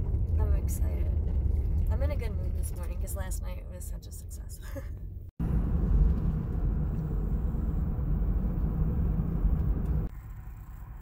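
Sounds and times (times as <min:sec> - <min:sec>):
car road and wind rumble: 0:00.0 - 0:11.0.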